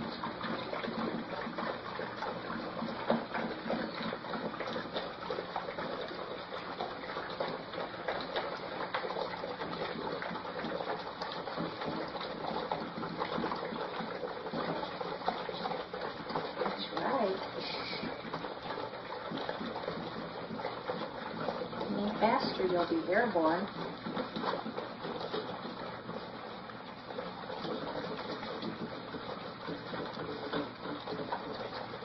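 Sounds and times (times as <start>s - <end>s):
puppies lapping and slurping: 0.0s - 32.0s.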